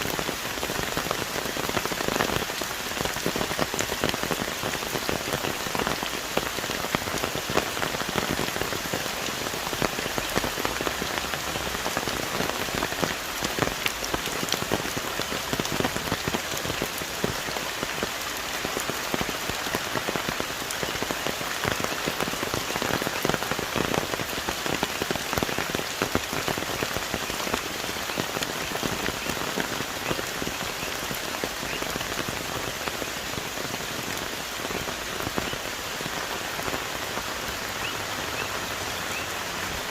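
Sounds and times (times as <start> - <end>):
heavy rain on trees: 0.0 - 39.9
raindrops striking close by: 0.0 - 39.9.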